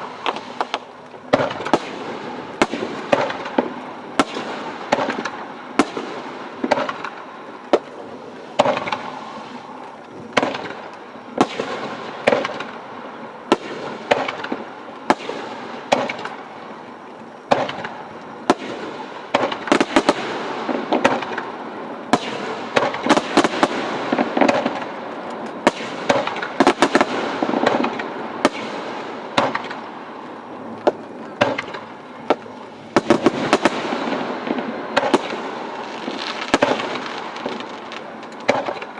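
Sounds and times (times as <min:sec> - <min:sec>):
fireworks bangs: 0:00.0 - 0:38.9
fireworks crackling: 0:00.0 - 0:38.9.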